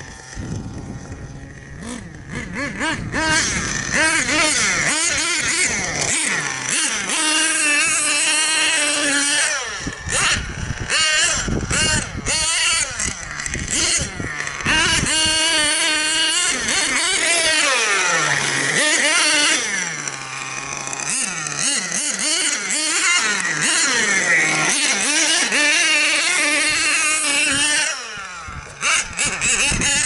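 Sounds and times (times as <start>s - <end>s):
rc truck engine revving: 0.0s - 30.0s.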